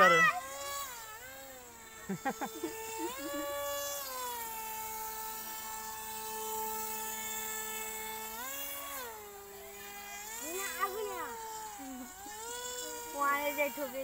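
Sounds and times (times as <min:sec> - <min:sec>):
small boat motor whining: 0:00.0 - 0:14.0.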